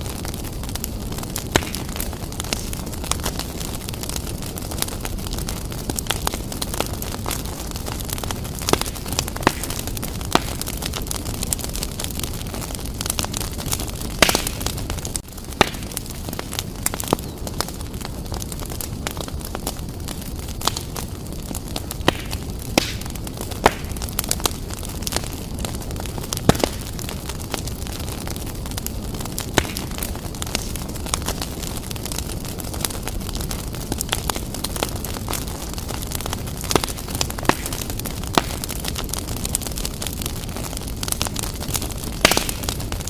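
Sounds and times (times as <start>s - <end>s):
fire crackles and pops: 0.0s - 43.0s
low rumble of flames: 0.0s - 43.0s.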